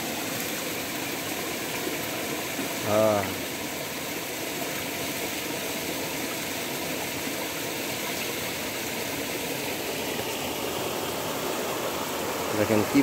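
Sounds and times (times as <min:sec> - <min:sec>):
fast-flowing river water rushing: 0:00.0 - 0:13.0.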